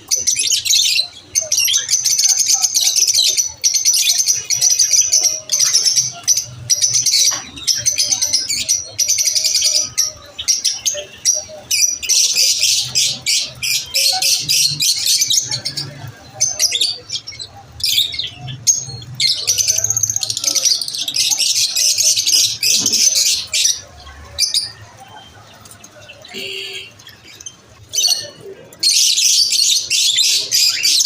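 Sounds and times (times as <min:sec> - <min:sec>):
lovebirds chirping: 0:00.0 - 0:31.0.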